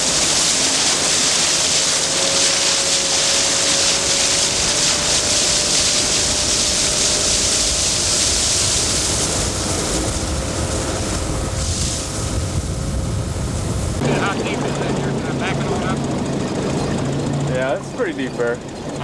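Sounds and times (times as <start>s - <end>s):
faint steady whine: 0.0s - 19.0s
outboard motor running: 0.0s - 19.0s
rush of water: 0.0s - 19.0s
wind noise: 2.1s - 17.5s.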